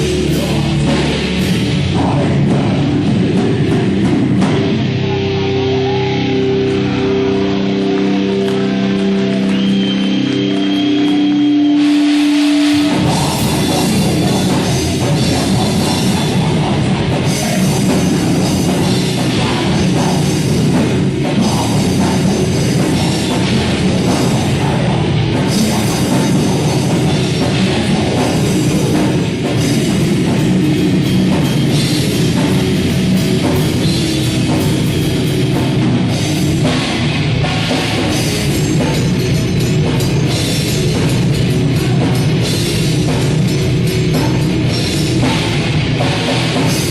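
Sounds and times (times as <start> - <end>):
heavy metal band playing live: 0.0 - 46.9
lone electric guitar: 0.0 - 46.9.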